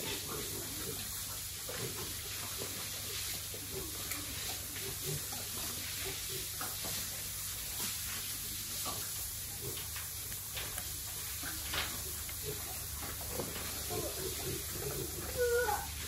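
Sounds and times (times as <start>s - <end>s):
pig splashing and slurping: 0.0s - 16.0s.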